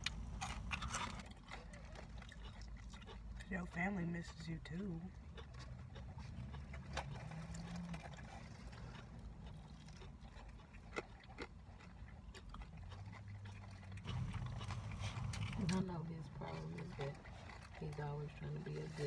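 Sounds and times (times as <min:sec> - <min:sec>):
person chewing fried food: 0:00.0 - 0:18.8
low car interior rumble: 0:00.0 - 0:19.0.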